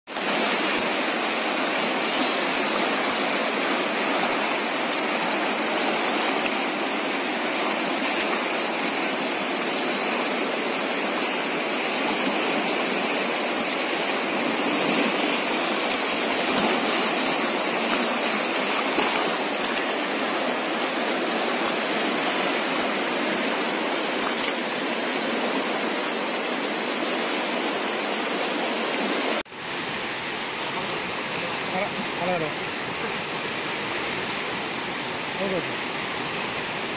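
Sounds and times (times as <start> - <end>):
river rushing over rocks: 0.1 - 36.9.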